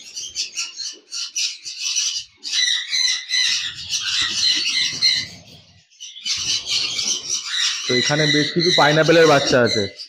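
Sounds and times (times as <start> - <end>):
parrots squawking: 0.0 - 10.0.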